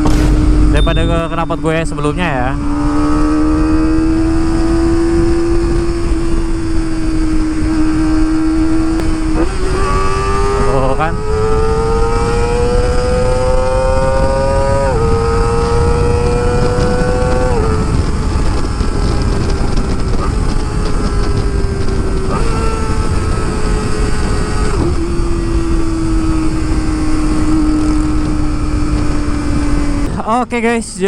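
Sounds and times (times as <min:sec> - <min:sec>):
wind rushing over microphone: 0:00.0 - 0:30.8
motorcycle engine revving: 0:02.0 - 0:30.1.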